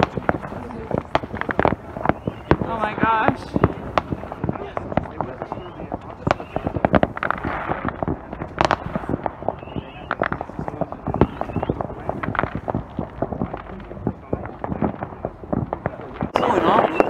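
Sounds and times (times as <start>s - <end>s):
distant fireworks and firecrackers: 0.0s - 17.0s.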